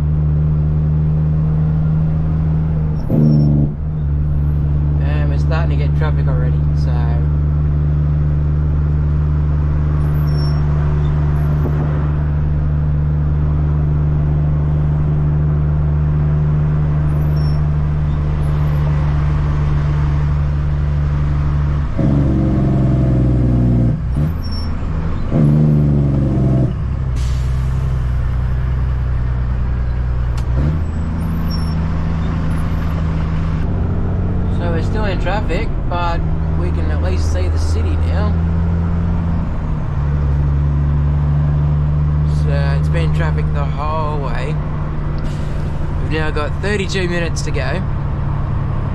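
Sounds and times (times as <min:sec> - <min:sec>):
diesel truck engine running: 0:00.0 - 0:48.9
truck engine revving: 0:00.0 - 0:48.9.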